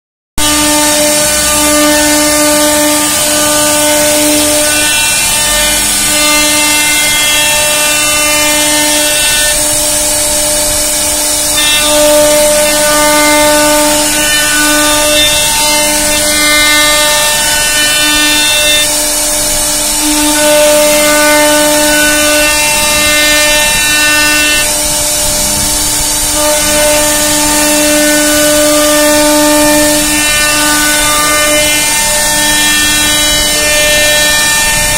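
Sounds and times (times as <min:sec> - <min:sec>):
router spindle whining: 0:00.4 - 0:34.9
high hiss: 0:00.5 - 0:34.9.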